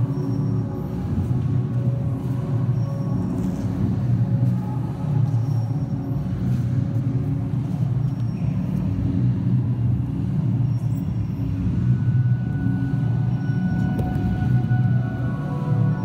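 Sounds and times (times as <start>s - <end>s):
ambient music drone: 0.0s - 16.0s.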